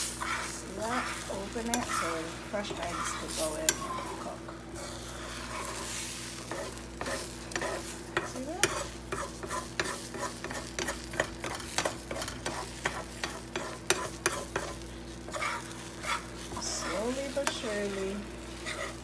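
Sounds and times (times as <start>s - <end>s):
eggs sizzling in a frying pan: 0.0s - 19.0s
spoon scraping a pan: 0.0s - 19.0s.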